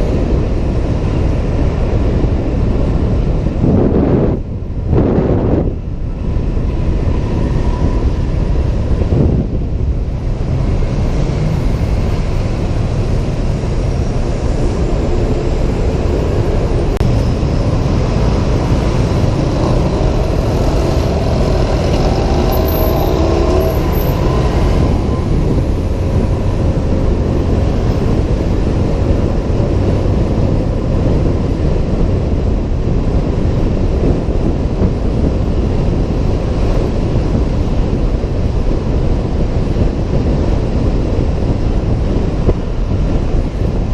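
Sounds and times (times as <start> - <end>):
road traffic: 0.0 - 43.9
wind rushing over microphone: 0.0 - 43.9.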